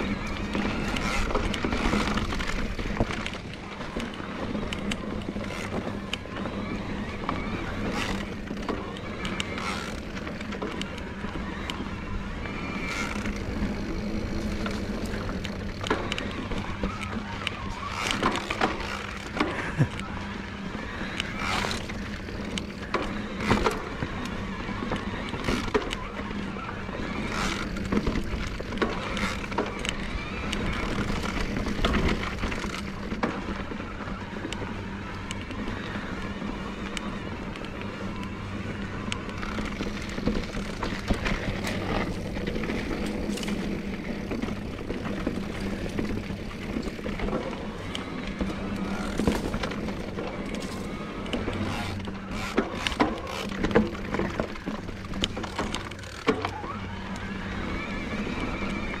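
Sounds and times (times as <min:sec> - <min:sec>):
bike rattling: 0:00.0 - 0:59.0
electric bike motor hum: 0:00.0 - 0:59.0
tyres rolling over dirt and rock: 0:00.0 - 0:59.0.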